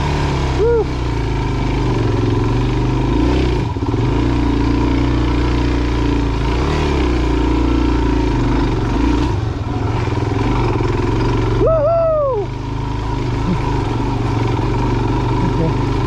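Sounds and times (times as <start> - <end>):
motorcycle engine pulling at low revs: 0.0 - 16.0.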